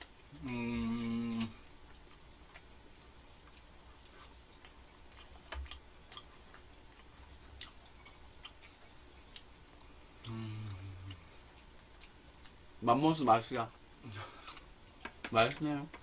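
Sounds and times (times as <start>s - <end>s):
faint low hum: 0.0s - 16.0s
quiet chewing with mouth clicks: 0.0s - 16.0s.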